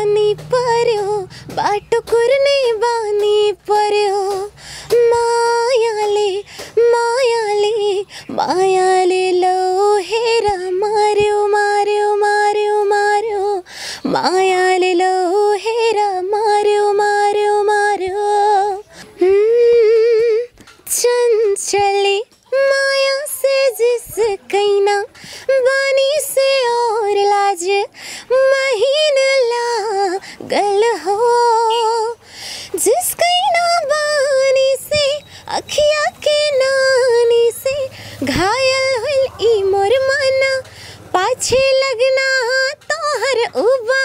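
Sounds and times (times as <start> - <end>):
woman singing unaccompanied: 0.0 - 44.0.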